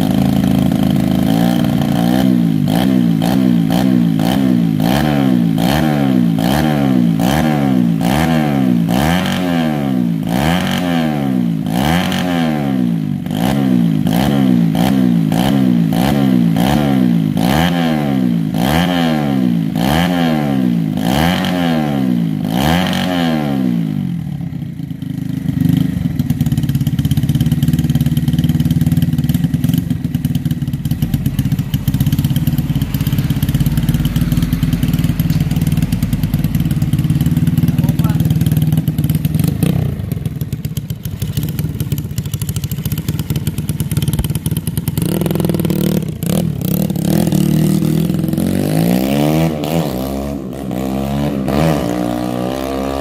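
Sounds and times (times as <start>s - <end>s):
motorcycle engine revving and idling: 0.0s - 53.0s.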